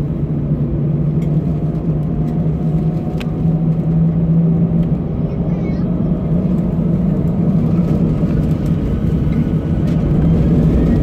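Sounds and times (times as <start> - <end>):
jet engines humming: 0.0 - 11.0
wheels rumbling on runway: 0.0 - 11.0.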